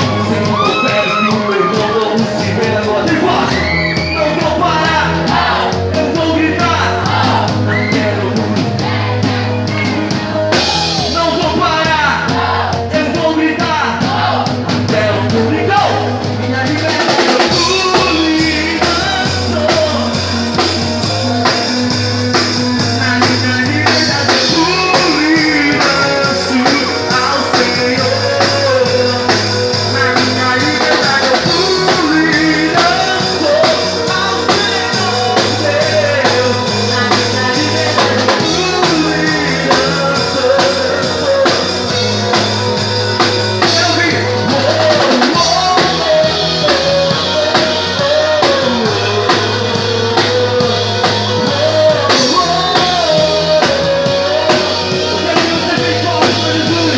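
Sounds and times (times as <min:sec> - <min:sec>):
bass line: 0:00.0 - 0:56.9
drum kit beat: 0:00.0 - 0:56.9
melodic lead line: 0:00.0 - 0:56.9.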